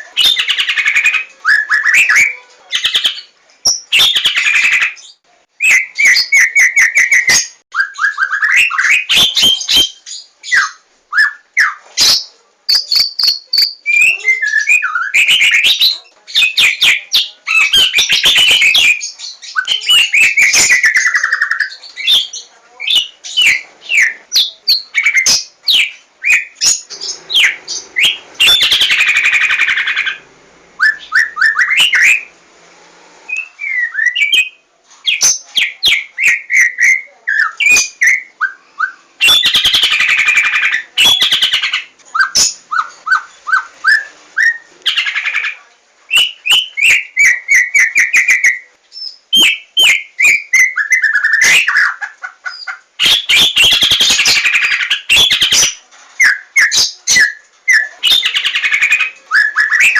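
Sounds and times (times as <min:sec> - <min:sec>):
songbird singing: 0:00.0 - 0:32.4, 0:33.3 - 0:59.9.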